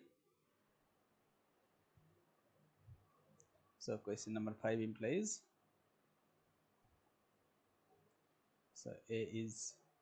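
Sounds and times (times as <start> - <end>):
faint recording hiss: 0.0 - 10.0.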